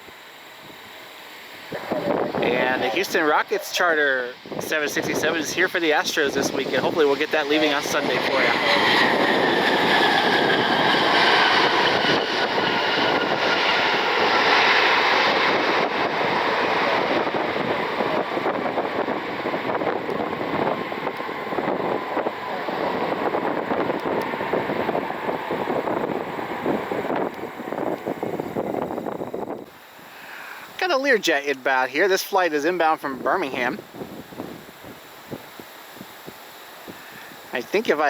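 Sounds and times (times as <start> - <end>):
jet airliner passing: 0.0 - 38.0
wind on microphone: 1.6 - 29.7, 33.2 - 37.8.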